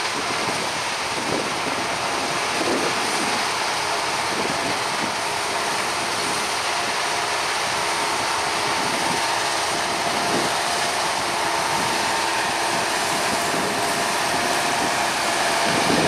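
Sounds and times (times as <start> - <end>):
combine harvester running: 0.0 - 16.0.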